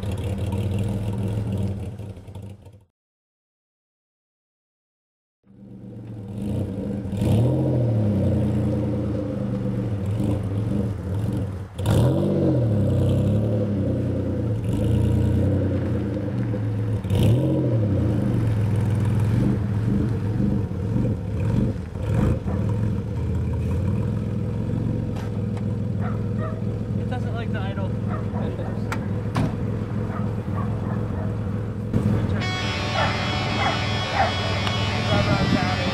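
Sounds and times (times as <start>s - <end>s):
car engine idling and revving: 0.0s - 2.9s, 5.4s - 35.9s.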